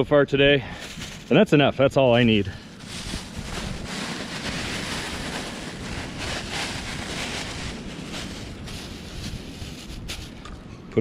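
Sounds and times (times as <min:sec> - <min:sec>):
wind blowing: 0:00.0 - 0:11.0.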